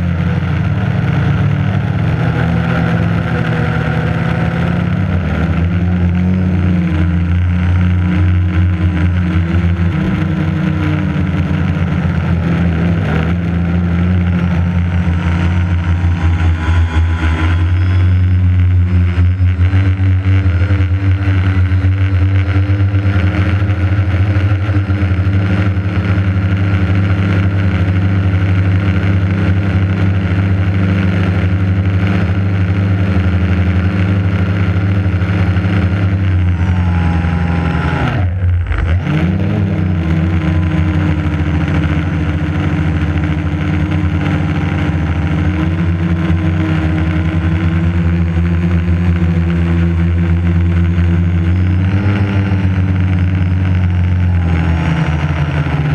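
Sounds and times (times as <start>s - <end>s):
drone motors and propellers whirring: 0.0s - 55.9s.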